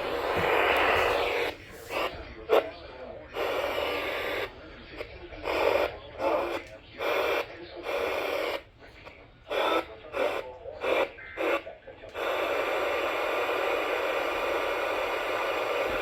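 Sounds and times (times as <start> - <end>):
radio static crackling: 0.0 - 16.0
radio static hiss: 0.0 - 16.0.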